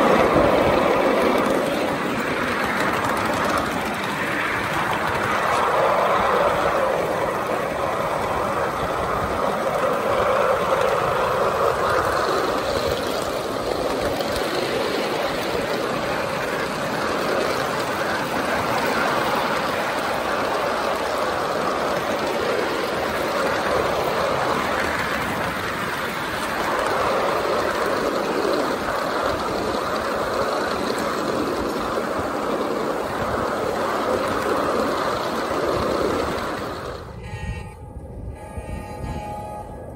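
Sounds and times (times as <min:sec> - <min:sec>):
locomotive drive noise: 0:00.0 - 0:39.9
wheels rumbling on rail: 0:00.0 - 0:39.9.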